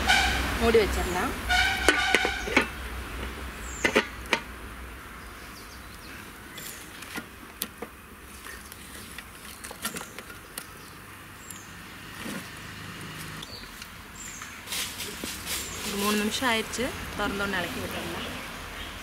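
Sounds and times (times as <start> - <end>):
firewood crackling and hissing: 2.4 - 18.6.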